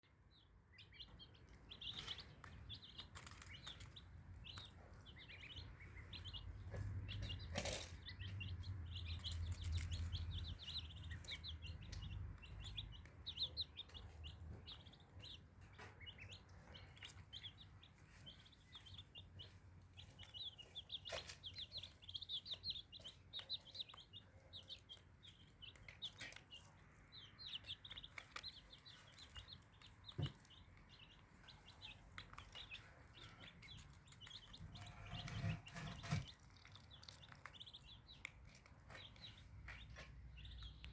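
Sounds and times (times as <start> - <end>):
chicks and ducklings peeping: 0.0 - 40.9.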